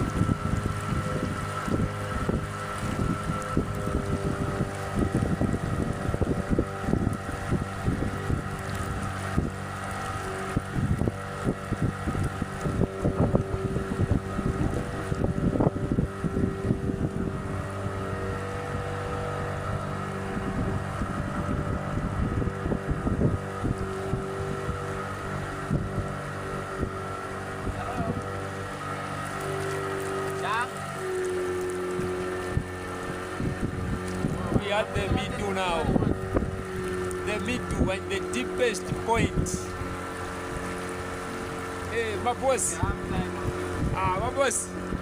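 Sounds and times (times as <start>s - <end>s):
motorboat engine running: 0.0s - 45.0s
wind buffeting microphone: 0.0s - 45.0s.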